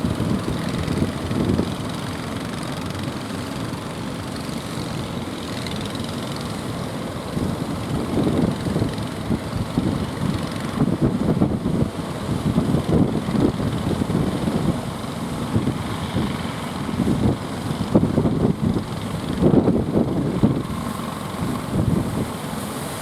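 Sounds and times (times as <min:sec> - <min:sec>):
wind buffeting microphone: 0:00.0 - 0:03.2, 0:07.1 - 0:23.0
boat engine running: 0:00.0 - 0:23.0.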